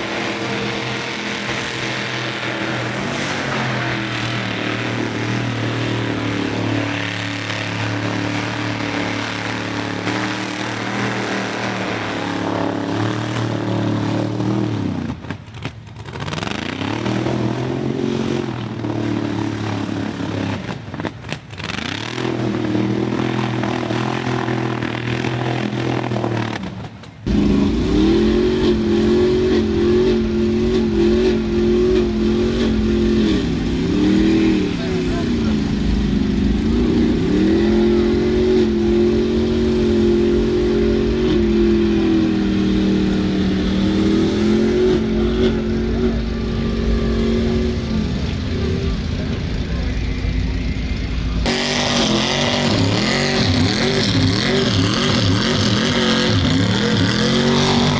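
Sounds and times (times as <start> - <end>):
deeper engine roaring: 0.0 - 57.9
mud truck engine revving: 0.0 - 57.9.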